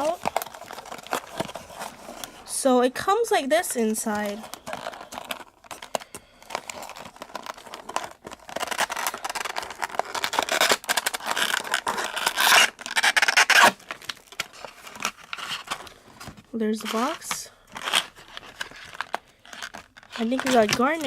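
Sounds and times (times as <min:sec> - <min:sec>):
cardboard packaging scraping and rustling: 0:00.0 - 0:02.5, 0:03.8 - 0:21.0.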